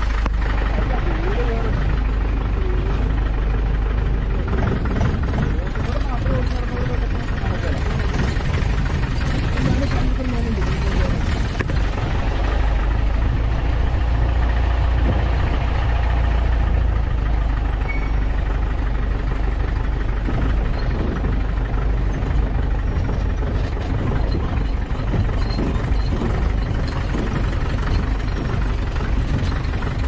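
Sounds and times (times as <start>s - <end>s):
off-road vehicle engine rumbling: 0.0s - 30.0s.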